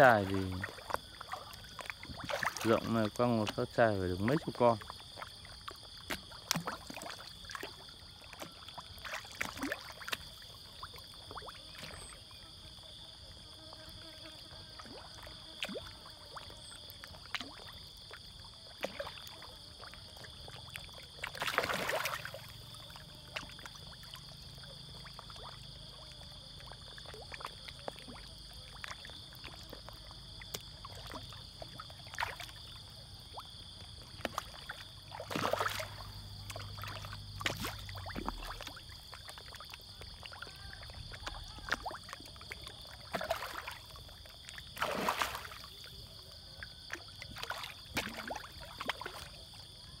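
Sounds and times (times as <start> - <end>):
fish splashing in pond: 0.0 - 12.4, 13.0 - 50.0.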